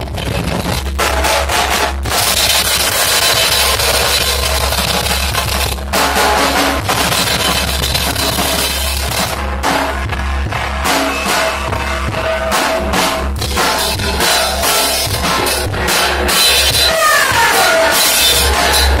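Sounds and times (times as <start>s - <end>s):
distorted noise wash: 0.0s - 19.0s
pounding drum kit: 0.0s - 19.0s.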